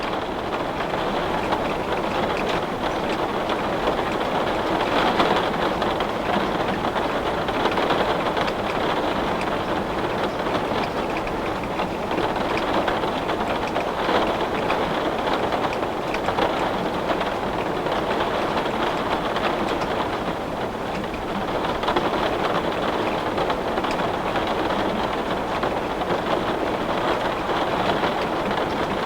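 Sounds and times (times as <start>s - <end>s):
heavy rain on window pane: 0.0s - 29.0s.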